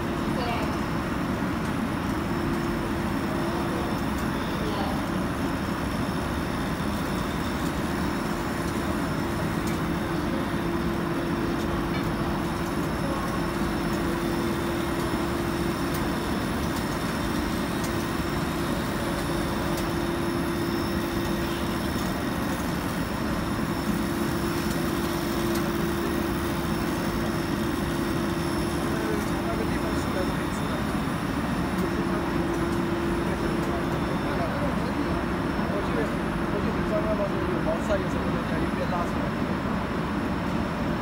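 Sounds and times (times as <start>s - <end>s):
machine drone: 0.0s - 41.0s.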